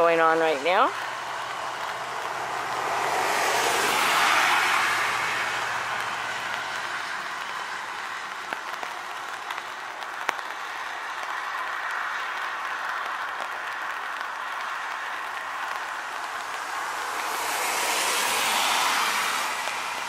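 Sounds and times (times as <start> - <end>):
light rain hiss: 0.0 - 20.0
raindrop ticks: 0.0 - 20.0.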